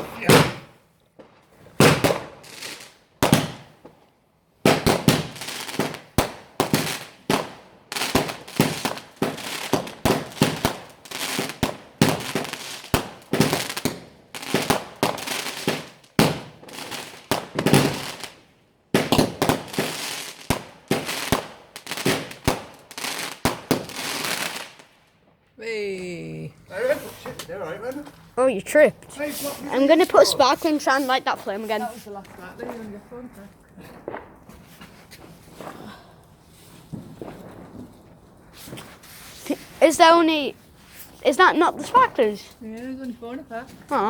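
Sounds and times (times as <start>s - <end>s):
fireworks cracking and banging: 0.0s - 25.5s, 26.7s - 44.0s.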